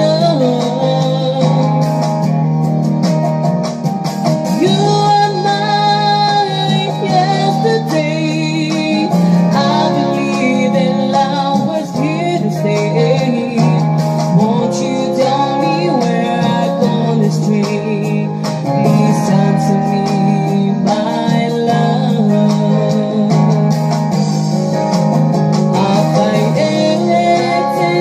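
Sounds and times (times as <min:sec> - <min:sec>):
person singing: 0:00.0 - 0:02.4, 0:04.4 - 0:24.2, 0:25.6 - 0:28.0
guitar-led backing music: 0:00.0 - 0:28.0.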